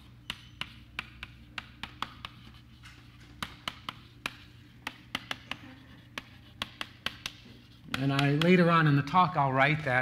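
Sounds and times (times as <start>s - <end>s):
chalk tapping on blackboard: 0.0s - 8.8s.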